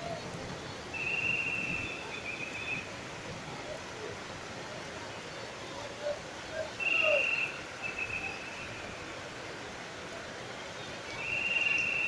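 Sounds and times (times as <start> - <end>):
heavy rain on street: 0.0 - 12.0.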